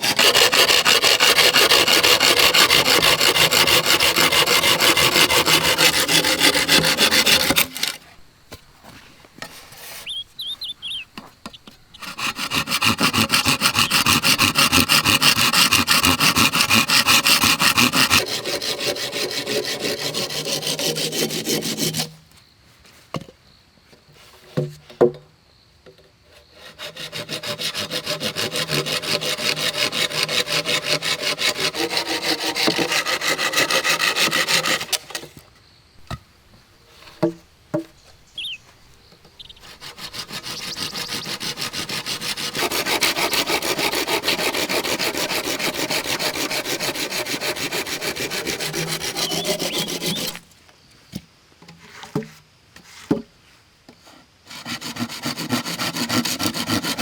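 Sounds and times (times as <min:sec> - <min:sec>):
hand saw cutting wood: 0:00.0 - 0:22.2, 0:26.3 - 0:35.4, 0:36.0 - 0:50.5, 0:54.5 - 0:57.0.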